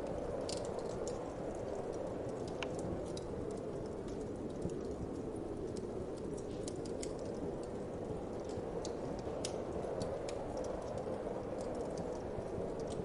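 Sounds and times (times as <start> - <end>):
low rushing wind: 0.0 - 13.0
wood fire crackling and popping: 0.0 - 13.0.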